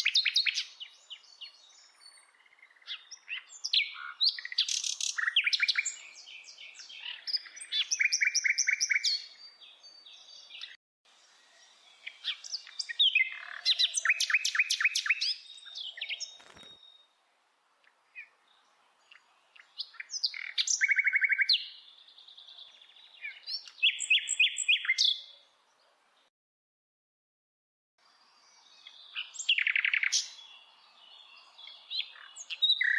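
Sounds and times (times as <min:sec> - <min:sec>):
bird singing chirps and trills: 0:00.0 - 0:17.2, 0:17.8 - 0:26.3, 0:28.0 - 0:32.9.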